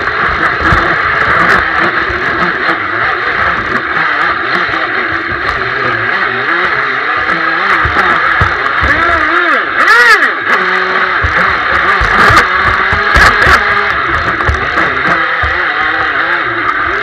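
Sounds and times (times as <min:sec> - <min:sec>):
boat motor revving: 0:00.0 - 0:17.0.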